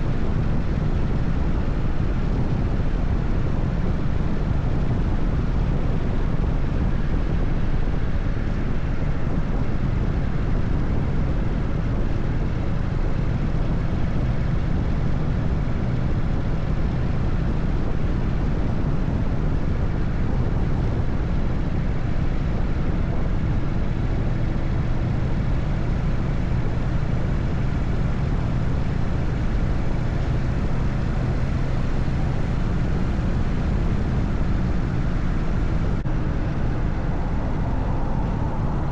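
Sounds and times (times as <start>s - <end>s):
road and wind rush: 0.0s - 38.9s.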